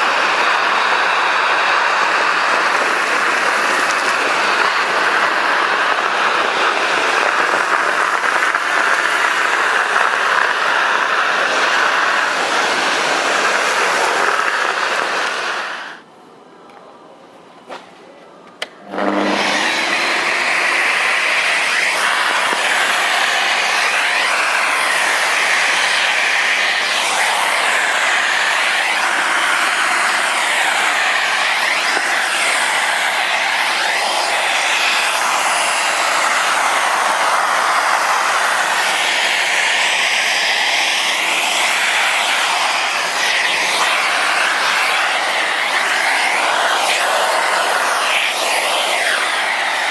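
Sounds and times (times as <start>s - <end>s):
dust extractor whooshing: 0.0s - 16.0s, 18.8s - 49.9s.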